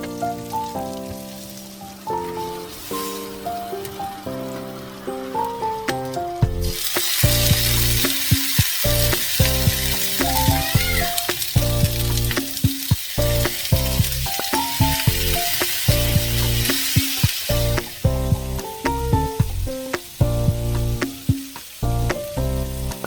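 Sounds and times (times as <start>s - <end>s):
chicken sizzling on a griddle: 0.0s - 23.0s
soft background music: 0.0s - 23.0s.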